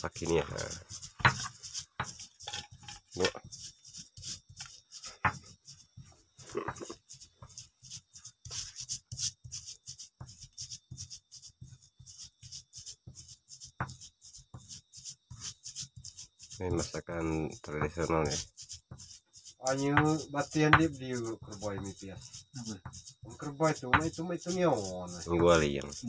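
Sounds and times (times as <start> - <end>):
stone pestle grinding in mortar: 0.0 - 26.0.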